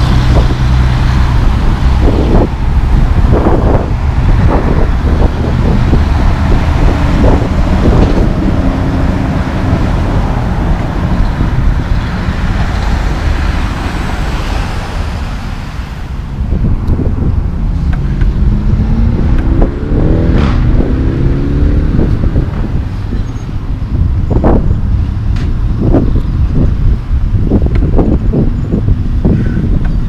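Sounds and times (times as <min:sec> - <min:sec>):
passing cars: 0:00.0 - 0:30.0
truck diesel engine and tyres: 0:00.0 - 0:30.0.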